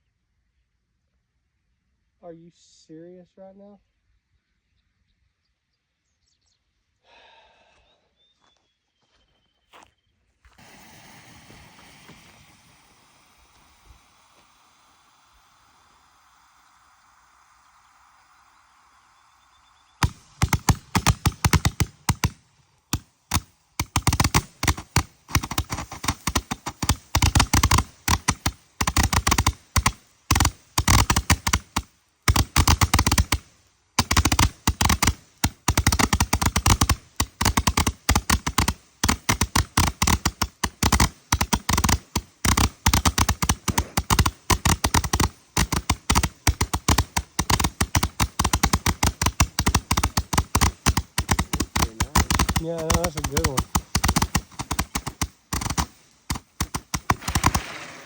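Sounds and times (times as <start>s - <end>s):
roman candle firework crackling shots: 10.5s - 58.0s.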